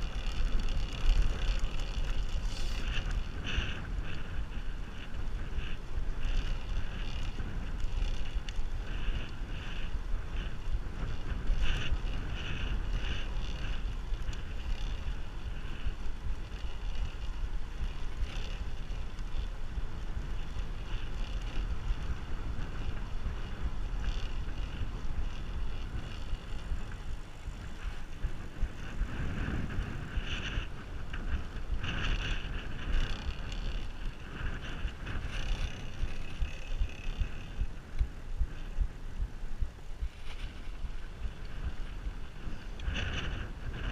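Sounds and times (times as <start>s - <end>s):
road and tyre noise: 0.0s - 43.9s
wind buffeting microphone: 0.0s - 43.9s.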